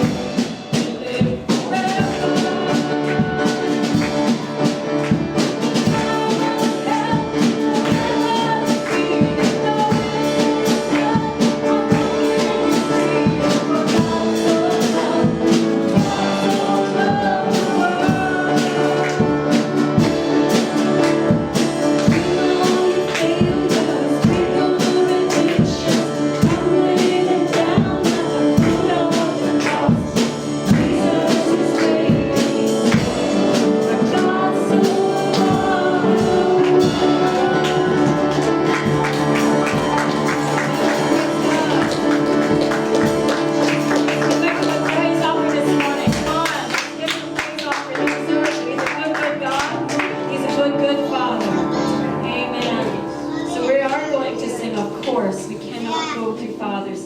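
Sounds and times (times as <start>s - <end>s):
church band worship music: 0.0s - 57.0s.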